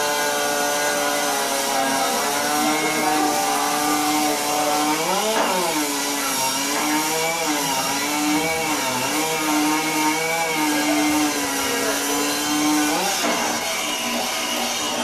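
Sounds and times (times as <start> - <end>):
chainsaw engines running: 0.0 - 15.0.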